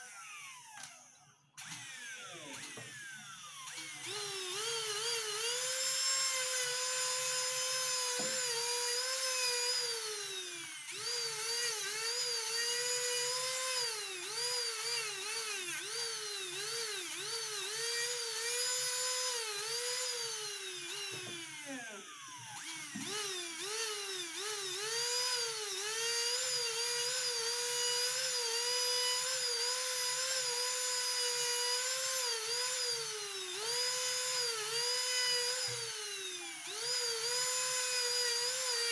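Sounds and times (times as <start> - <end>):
rotary tool whining: 0.0 - 38.9.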